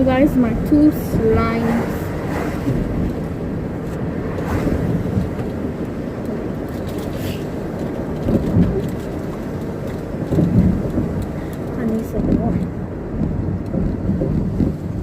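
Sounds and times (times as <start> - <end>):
low bumps: 0.0 - 15.0
low rumbling noise: 0.0 - 15.0.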